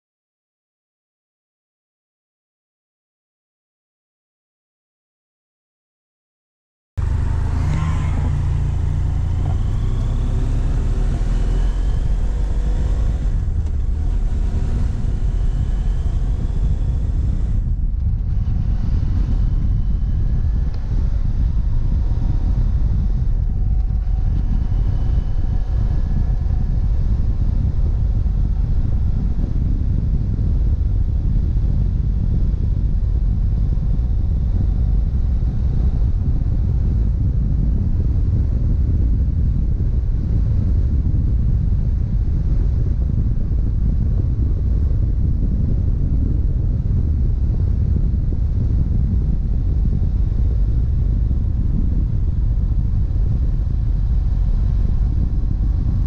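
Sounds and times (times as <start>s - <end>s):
motorcycle engine accelerating: 7.0s - 56.0s
wind and road noise: 7.0s - 56.0s.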